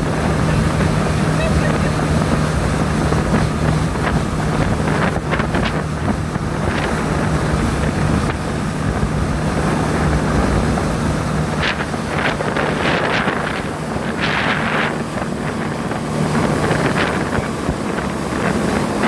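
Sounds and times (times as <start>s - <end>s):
boat engine running: 0.0s - 19.0s
water rushing past hull: 0.0s - 19.0s
wind buffeting microphone: 0.0s - 19.0s.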